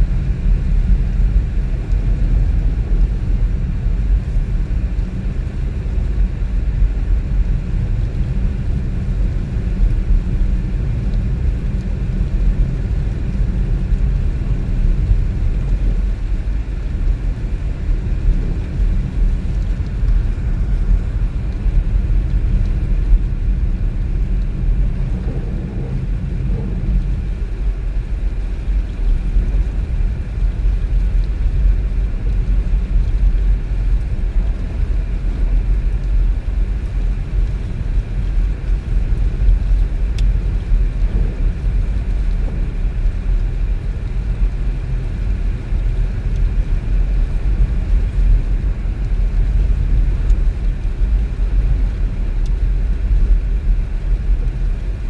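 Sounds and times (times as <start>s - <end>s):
tyre road noise: 0.3s - 55.0s.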